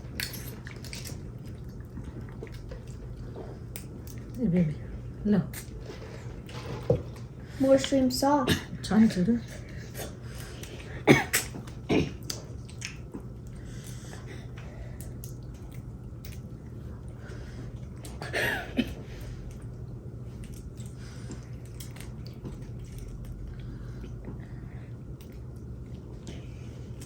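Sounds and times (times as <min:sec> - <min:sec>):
wet squishing and chewing: 0:00.0 - 0:08.0, 0:09.5 - 0:27.0
steady low hum: 0:00.0 - 0:27.0.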